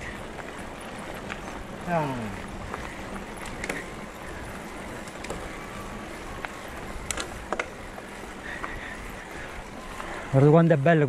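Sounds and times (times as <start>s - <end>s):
bike clicks and rattles: 0.0s - 11.0s
bike tyres crunching on gravel: 0.0s - 11.0s.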